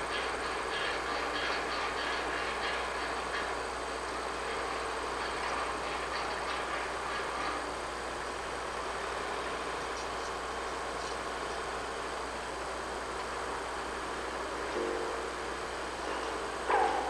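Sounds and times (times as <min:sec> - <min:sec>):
train rumbling and rattling: 0:00.0 - 0:17.0.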